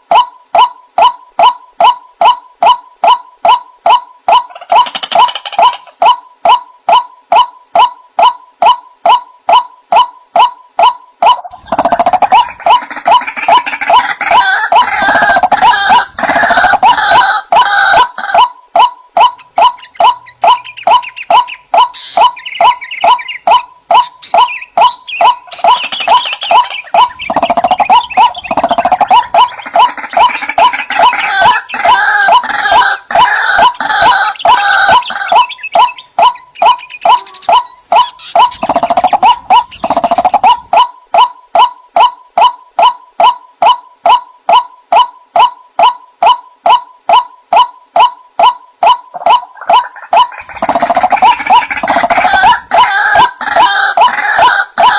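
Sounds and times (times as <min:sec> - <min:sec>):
harsh croaking calls: 0:00.0 - 0:54.9
waterhen monotonous calls: 0:00.0 - 0:54.9.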